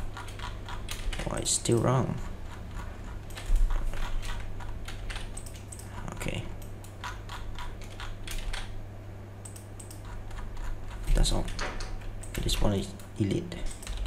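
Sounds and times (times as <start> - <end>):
keyboard and mouse clicking: 0.0 - 8.8, 9.4 - 13.1, 13.7 - 14.0
steady low hum: 0.0 - 14.0.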